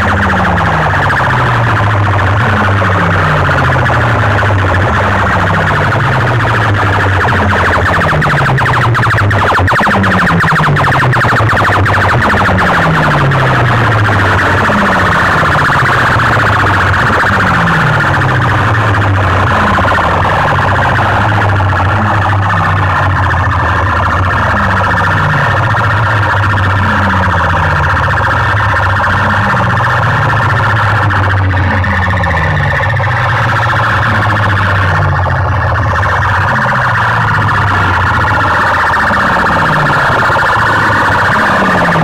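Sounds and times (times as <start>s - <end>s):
loudspeaker siren-like wail: 0.0s - 42.0s.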